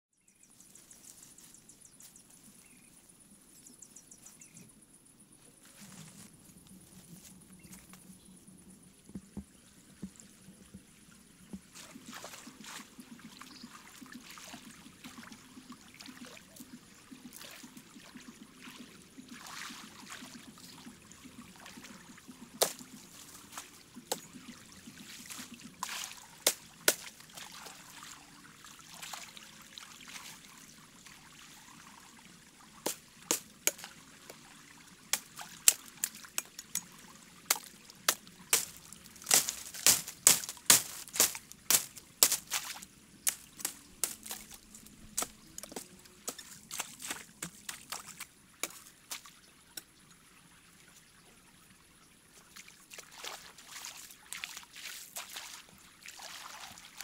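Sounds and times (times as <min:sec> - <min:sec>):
water sloshing while wading: 0:05.6 - 0:51.4, 0:52.0 - 0:57.0.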